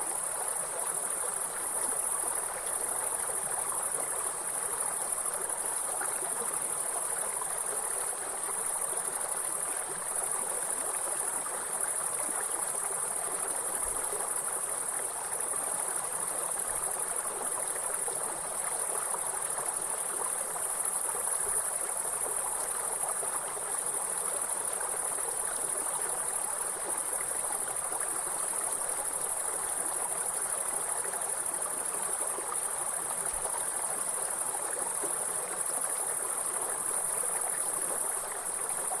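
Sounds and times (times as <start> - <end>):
flowing river: 0.0 - 39.0.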